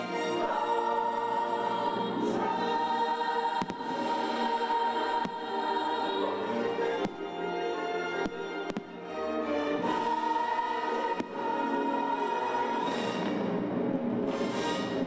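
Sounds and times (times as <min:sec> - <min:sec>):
choir and orchestra over loudspeakers: 0:00.0 - 0:15.0.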